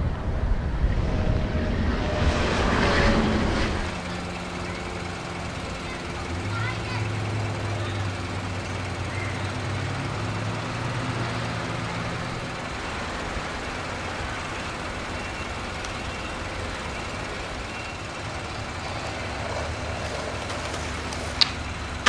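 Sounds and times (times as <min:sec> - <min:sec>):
low engine drone: 0:00.0 - 0:22.0
trucks and machinery running: 0:00.0 - 0:22.0.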